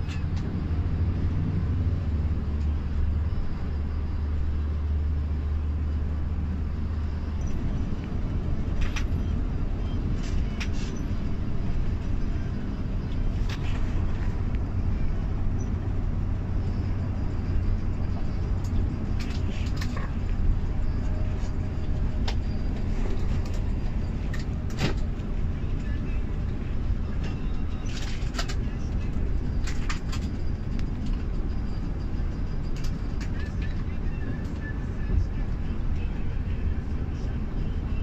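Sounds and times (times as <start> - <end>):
bus engine hum: 0.0 - 38.0
road rumble: 0.0 - 38.0.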